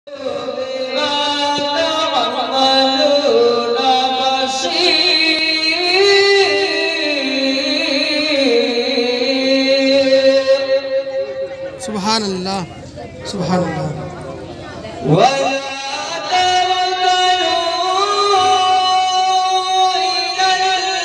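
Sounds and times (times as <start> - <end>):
man reciting melodically: 0.1 - 21.0.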